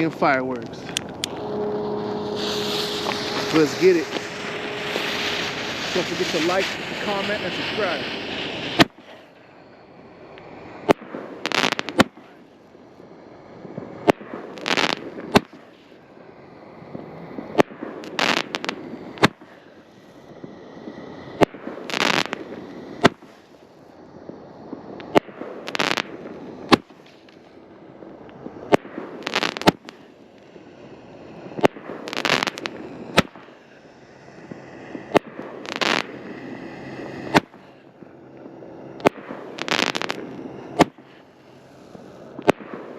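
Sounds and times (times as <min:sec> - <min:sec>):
firework bangs: 0:00.0 - 0:12.8, 0:13.4 - 0:16.2, 0:16.8 - 0:42.9
firework hissing burst: 0:00.0 - 0:42.9.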